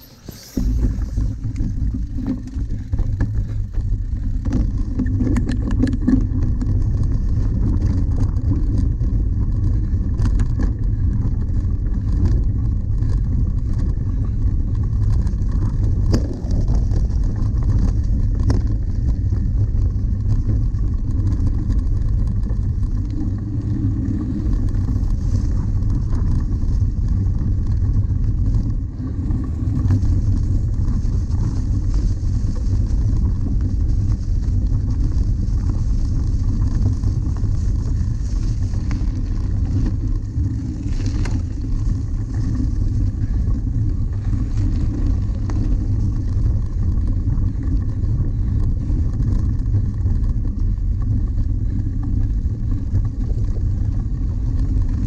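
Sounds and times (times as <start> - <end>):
bike knocking on bumps: 0.0 - 55.0
bike rumbling over bumpy ground: 0.0 - 55.0
wind on microphone: 0.0 - 55.0.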